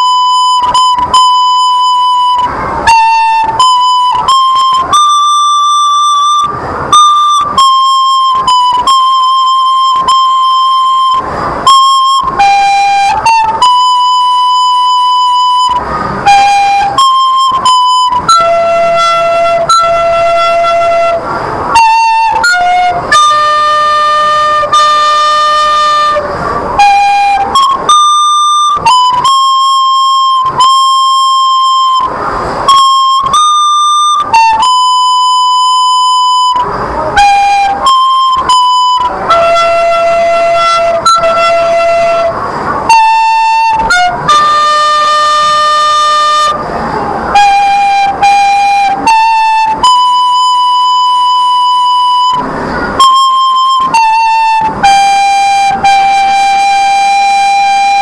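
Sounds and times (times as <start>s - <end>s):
recorder playing slow melody: 0.0s - 58.0s.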